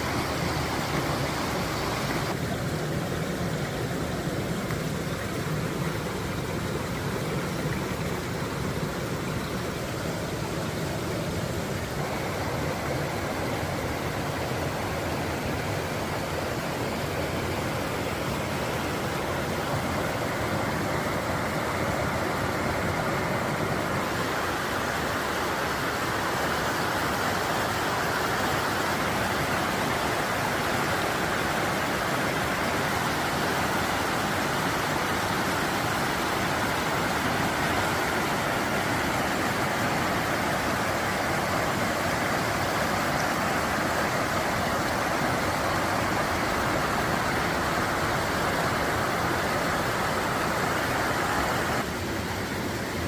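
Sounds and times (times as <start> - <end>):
stream rushing over rocks: 0.0 - 53.0.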